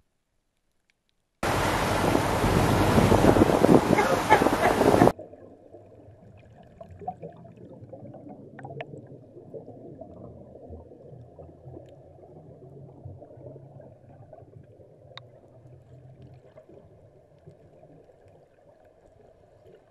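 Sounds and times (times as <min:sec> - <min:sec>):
underwater water rushing and bubbling: 0:01.4 - 0:19.9.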